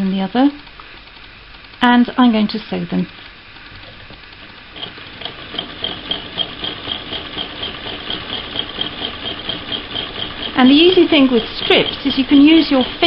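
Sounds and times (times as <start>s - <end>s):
sewing machine clicking: 0.5s - 13.0s.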